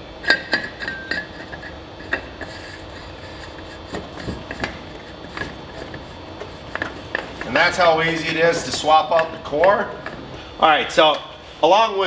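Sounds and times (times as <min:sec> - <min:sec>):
threads rubbing on housing: 0:00.2 - 0:10.6.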